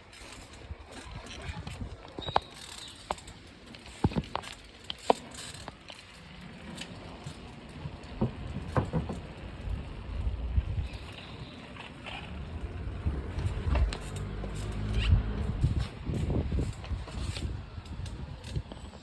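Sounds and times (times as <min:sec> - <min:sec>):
bicycle clicks and rattles: 0:00.0 - 0:19.0
low rumble of bicycle riding: 0:00.0 - 0:19.0.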